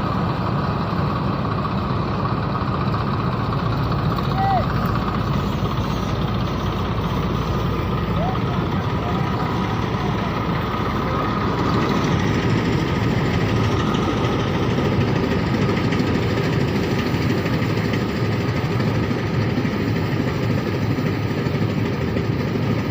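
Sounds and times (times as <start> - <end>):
combine harvester running: 0.0 - 22.9.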